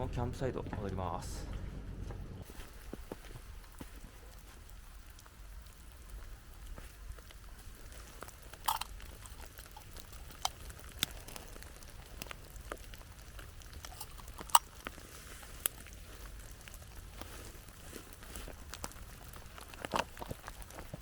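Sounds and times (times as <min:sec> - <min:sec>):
faint rain hiss: 0:00.0 - 0:21.0
raindrops tapping a surface: 0:02.4 - 0:21.0.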